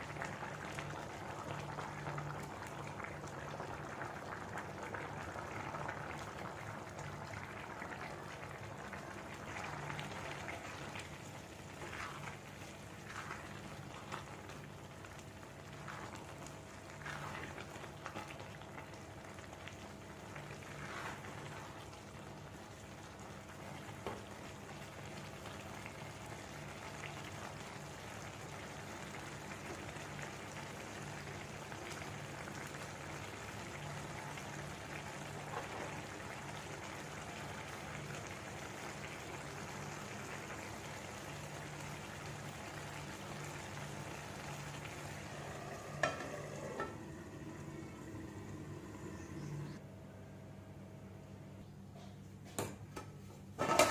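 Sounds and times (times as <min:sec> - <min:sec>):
rice cooking in pot: 0:00.0 - 0:49.8, 0:52.0 - 0:53.9
low steady hum: 0:00.0 - 0:53.6.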